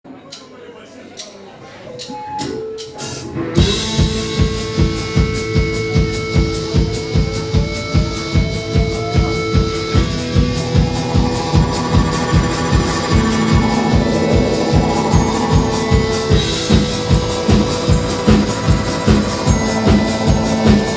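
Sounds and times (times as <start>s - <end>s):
rock band playing live: 2.6s - 20.9s
steady kick drum beat: 3.6s - 20.9s
tone gliding upward: 4.0s - 20.9s.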